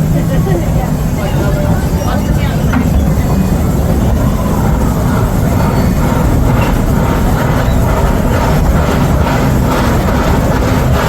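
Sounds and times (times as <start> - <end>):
train cars rolling on track: 0.0 - 11.0.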